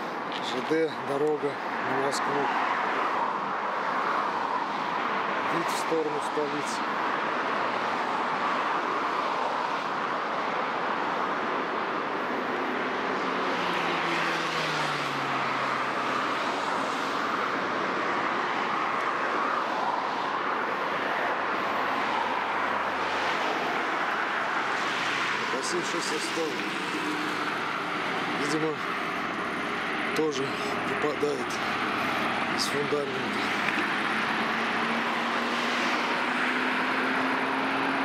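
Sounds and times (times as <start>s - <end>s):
passing vehicle engine: 0.0s - 38.0s
road traffic noise: 0.0s - 38.0s.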